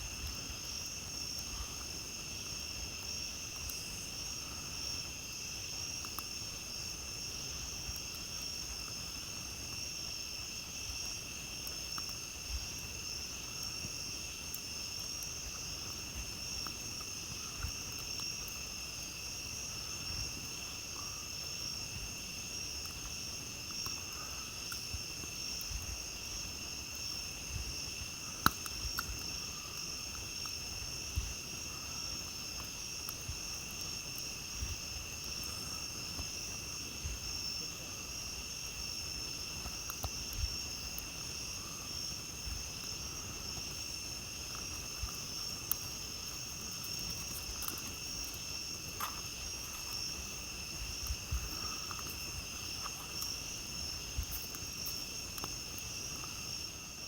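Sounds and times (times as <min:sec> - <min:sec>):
night insects trilling: 0:00.0 - 0:57.0
campfire crackling and popping: 0:00.1 - 0:57.0.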